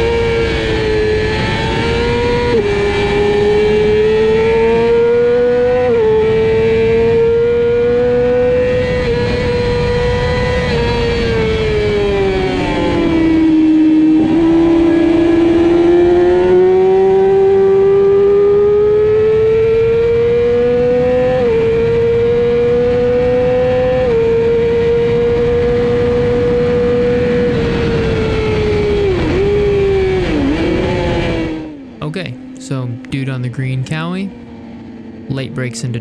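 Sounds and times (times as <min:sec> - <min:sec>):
motorcycle engine revving: 0:00.0 - 0:33.1, 0:33.9 - 0:35.7.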